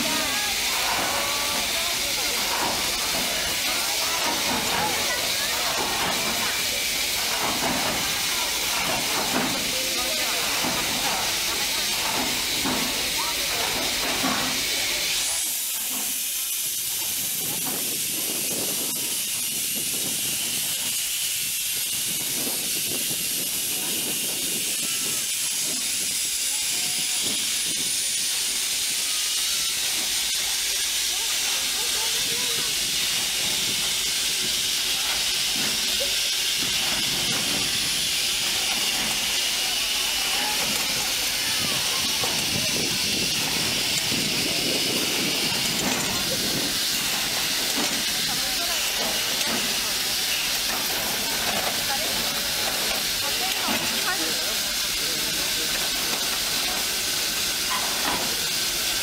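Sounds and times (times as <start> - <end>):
steam hissing from locomotive: 0.0 - 59.0.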